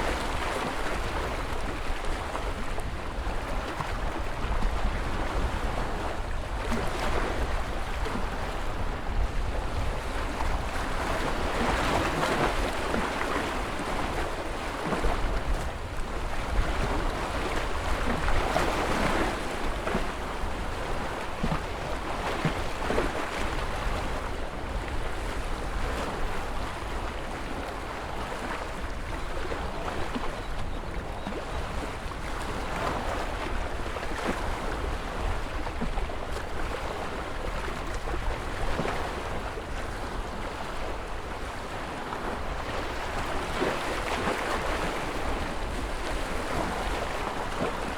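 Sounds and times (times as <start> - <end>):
waves breaking and washing in: 0.0 - 47.9.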